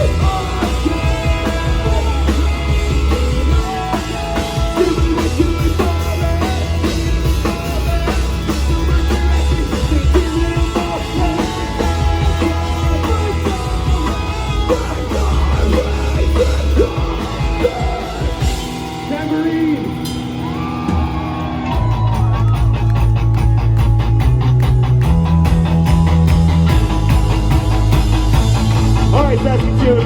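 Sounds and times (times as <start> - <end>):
pulsing bass line: 0.0 - 30.0
rock band playing live: 0.0 - 30.0.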